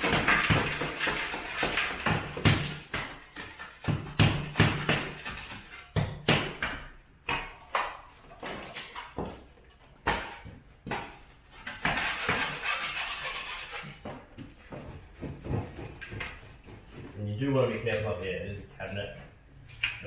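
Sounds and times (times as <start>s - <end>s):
scraping plaster: 0.0s - 16.9s
hand tools knocking plaster: 0.0s - 18.1s.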